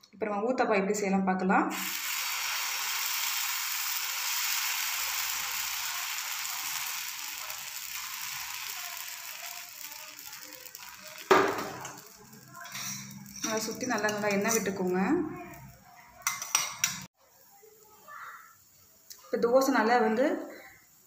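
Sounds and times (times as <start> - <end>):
batter sizzling on a hot pan: 1.7 - 19.1.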